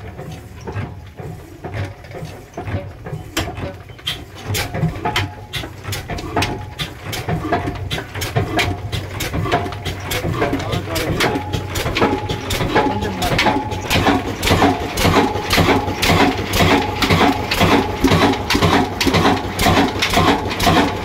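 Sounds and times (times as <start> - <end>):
diesel engine knocking: 0.0 - 21.0.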